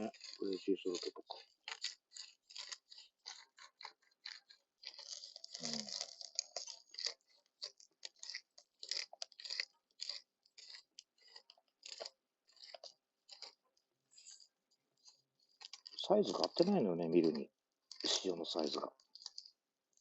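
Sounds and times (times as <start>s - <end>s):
salt mill grinding: 0.0s - 13.6s, 15.0s - 20.0s.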